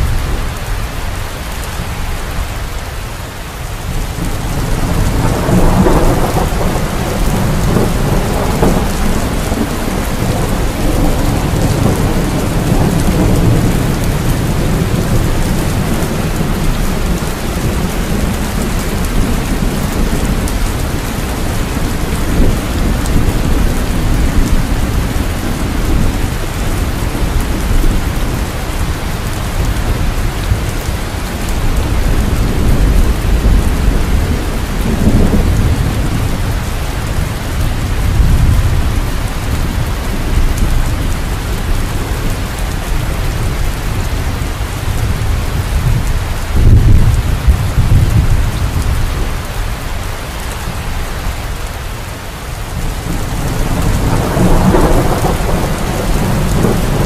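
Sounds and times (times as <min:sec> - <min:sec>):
heavy rain: 0:00.0 - 0:57.0
deep rolling thunder: 0:03.8 - 0:49.6, 0:52.7 - 0:57.0.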